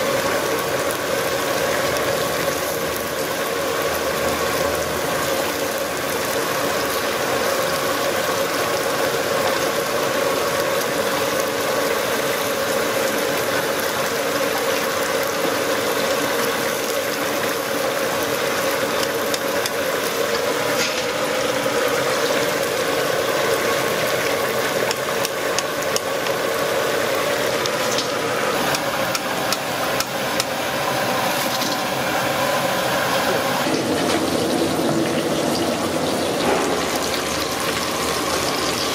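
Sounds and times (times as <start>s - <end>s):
fish deep-frying in hot oil: 0.0s - 38.9s.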